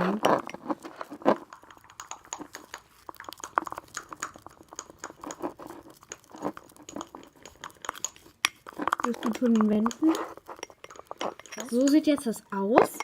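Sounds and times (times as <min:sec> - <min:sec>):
glue stirred with sticky scraping: 0:00.0 - 0:13.0.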